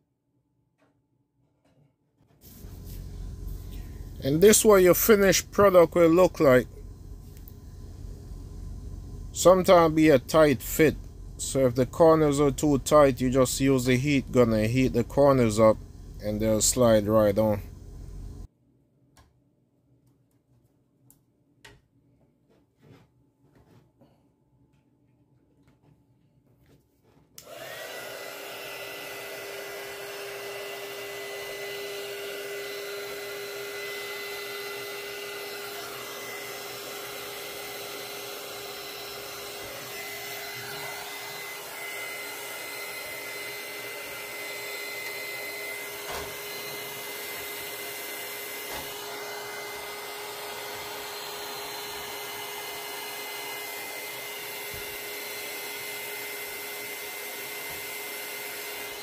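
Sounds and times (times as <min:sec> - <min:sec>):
heat gun fan whine: 0:02.4 - 0:18.5, 0:27.4 - 0:59.0.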